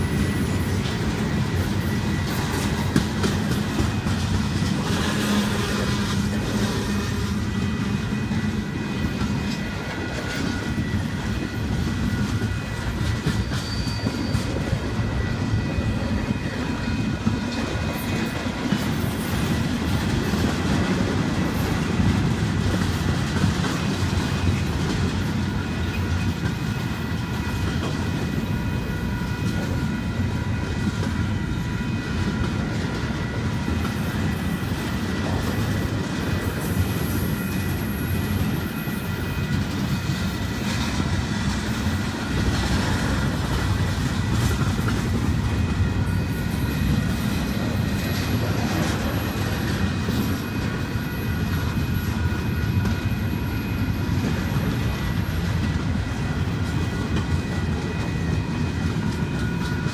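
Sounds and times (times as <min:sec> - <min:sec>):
freight train rolling past: 0:00.0 - 0:59.9
wheels clickety-clack over track: 0:00.0 - 0:59.9.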